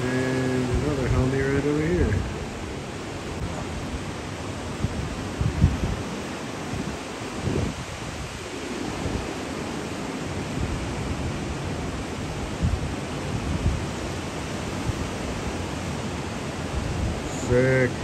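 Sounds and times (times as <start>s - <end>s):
wind bumps on microphone: 0.0s - 9.6s, 10.2s - 18.0s
ocean surf breaking: 0.0s - 18.0s.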